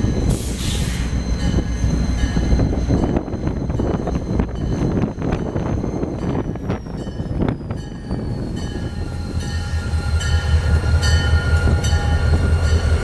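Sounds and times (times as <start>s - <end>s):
low train engine hum: 0.0s - 13.0s.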